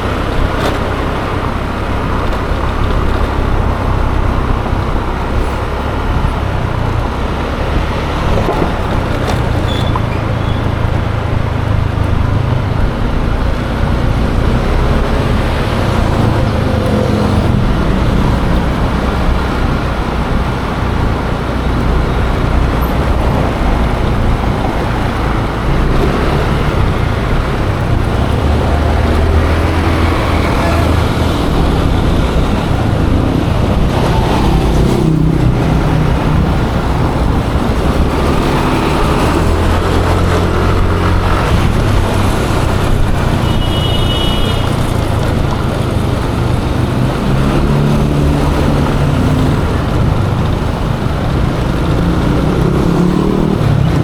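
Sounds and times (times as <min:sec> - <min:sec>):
scooter engine running: 0:00.0 - 0:54.0
traffic: 0:00.0 - 0:54.0
wind and road noise: 0:00.0 - 0:54.0.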